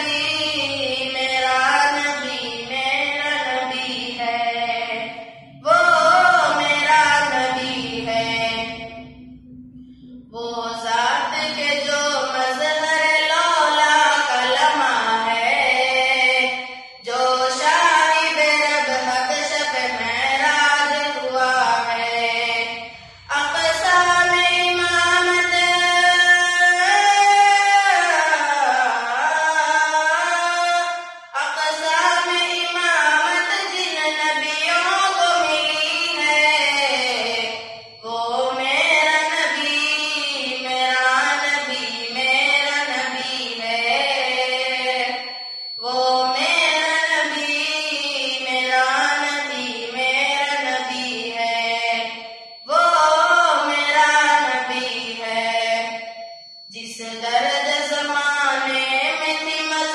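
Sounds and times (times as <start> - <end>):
boy singing unaccompanied: 0.0 - 45.2, 45.8 - 52.1, 52.7 - 55.9, 56.7 - 59.9.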